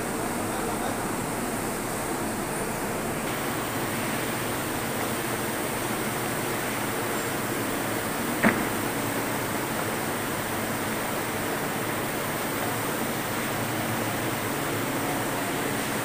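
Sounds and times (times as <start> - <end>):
factory rushing hiss: 0.0 - 16.0.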